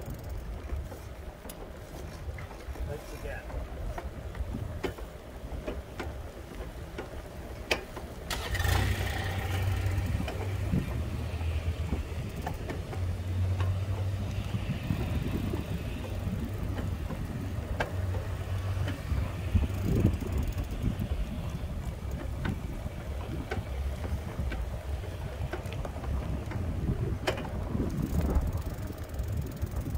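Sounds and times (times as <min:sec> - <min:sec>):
small vehicle motor hum: 0:00.0 - 0:29.9
wind on microphone: 0:01.8 - 0:05.6, 0:08.4 - 0:29.9.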